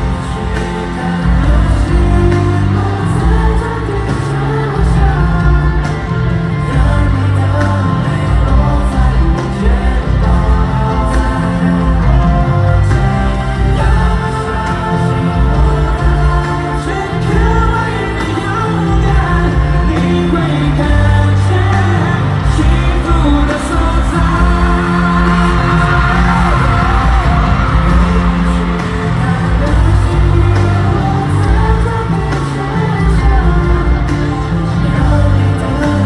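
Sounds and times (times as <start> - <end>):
live pop band playing: 0.0 - 36.0
person singing: 0.0 - 36.0.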